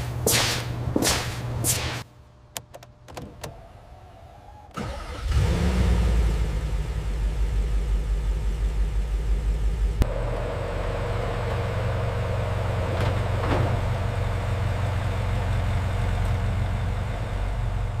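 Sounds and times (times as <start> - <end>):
car engine running: 2.6 - 18.0.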